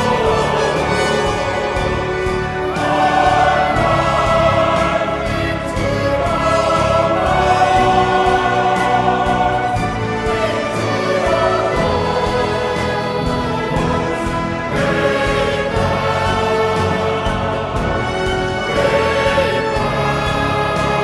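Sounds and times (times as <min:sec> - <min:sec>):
choir singing long notes: 0:00.0 - 0:21.0
orchestral accompaniment: 0:00.0 - 0:21.0.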